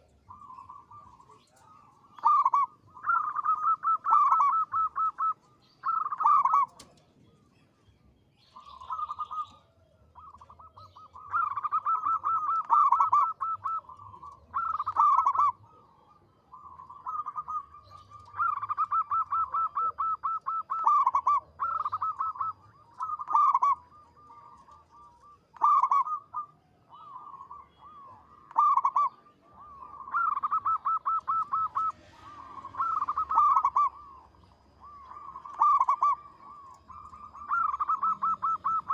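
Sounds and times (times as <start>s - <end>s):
dove cooing rattling notes: 0.0s - 7.5s, 8.4s - 38.9s.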